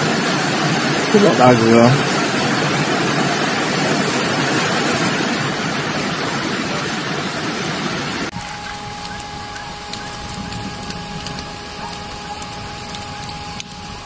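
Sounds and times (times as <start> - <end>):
heavy rain: 0.0 - 14.0
rushing floodwater: 0.0 - 14.0.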